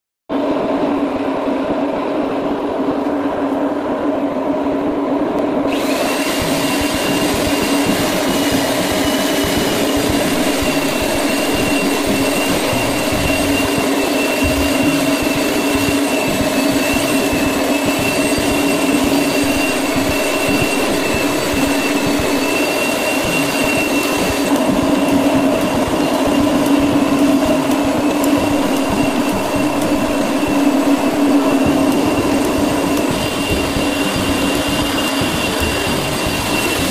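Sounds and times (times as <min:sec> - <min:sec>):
high steady whine: 0:00.3 - 0:36.9
floor grinding machine hum: 0:05.7 - 0:36.9.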